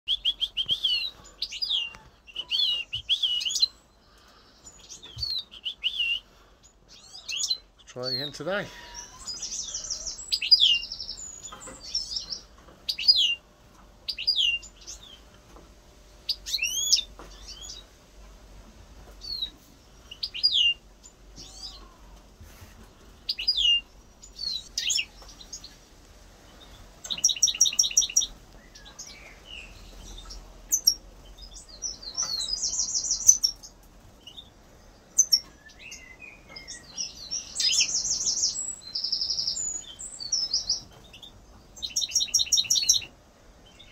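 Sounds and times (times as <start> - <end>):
goldfinch singing: 0.1 - 6.3, 6.9 - 13.4, 16.3 - 17.9, 19.2 - 21.9, 23.3 - 25.8, 26.5 - 43.9.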